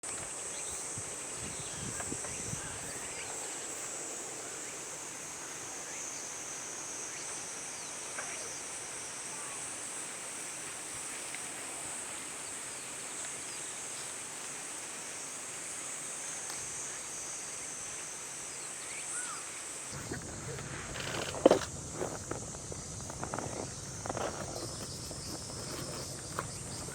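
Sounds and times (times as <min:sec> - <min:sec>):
high-pitched insect chorus: 0:00.1 - 0:26.9.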